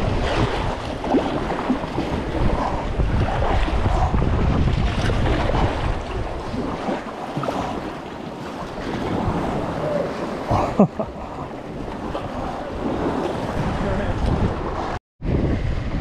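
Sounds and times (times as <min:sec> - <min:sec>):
paddle strokes: 0:00.0 - 0:15.0
water lapping against hull: 0:00.0 - 0:15.0
wind on microphone: 0:00.0 - 0:16.0.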